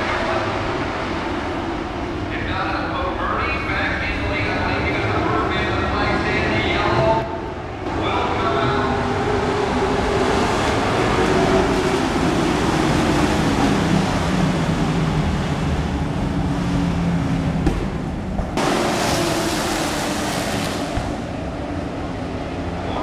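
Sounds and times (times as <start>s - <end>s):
race truck engines droning: 0.0s - 23.0s.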